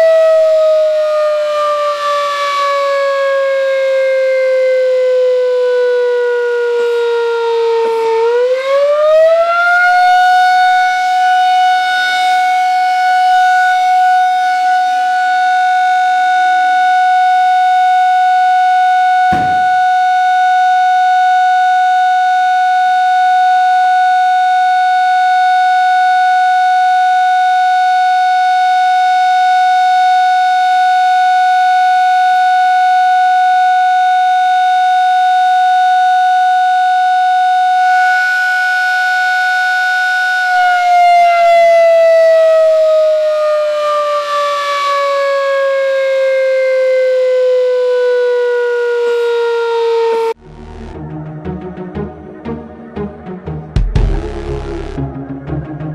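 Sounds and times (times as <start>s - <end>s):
alarm siren steady tone: 0.0s - 55.9s.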